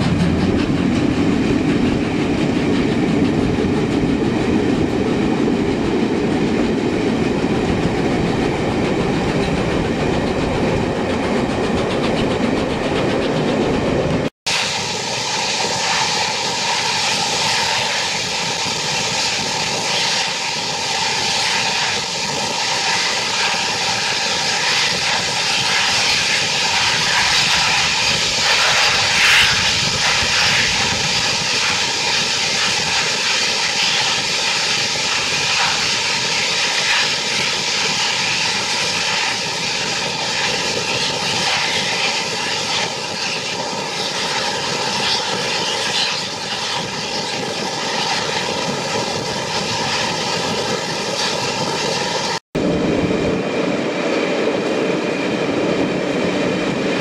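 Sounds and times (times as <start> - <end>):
train running at speed: 0.0 - 57.0.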